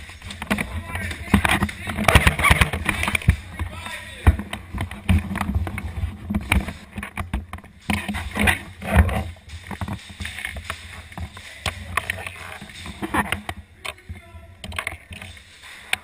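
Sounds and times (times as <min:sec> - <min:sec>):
handling knocks and rustles: 0:00.0 - 0:16.0.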